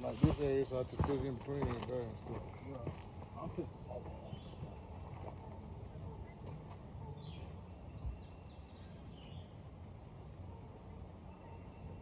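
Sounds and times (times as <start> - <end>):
songbird chirping: 0.0 - 9.7, 10.3 - 12.0.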